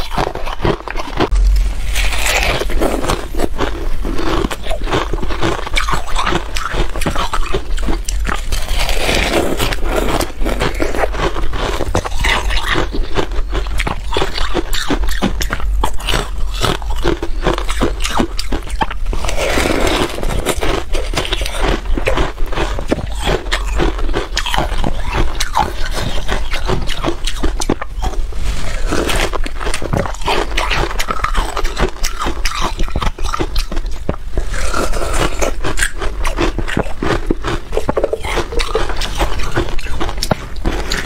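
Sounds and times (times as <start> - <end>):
ice crunching between teeth: 0.0 - 41.0.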